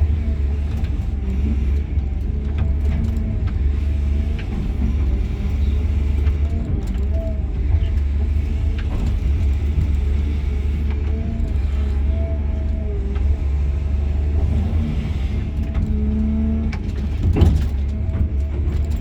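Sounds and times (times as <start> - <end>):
excavator diesel engine humming: 0.0 - 19.0.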